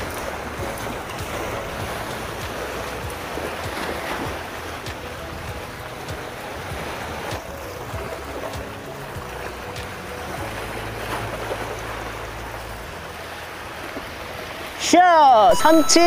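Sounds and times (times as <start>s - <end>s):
sea surf washing ashore: 0.0s - 16.0s.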